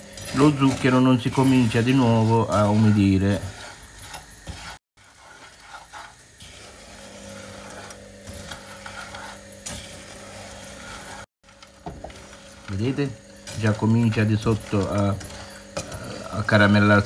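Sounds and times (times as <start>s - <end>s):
spoon stirring nuts in a pan: 0.0s - 17.0s.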